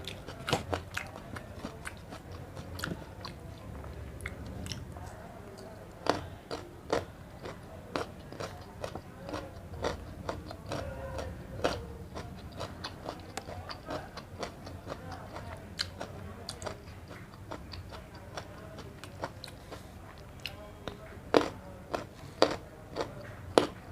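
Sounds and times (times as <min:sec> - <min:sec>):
person chewing food: 0:00.0 - 0:04.8, 0:05.6 - 0:23.8.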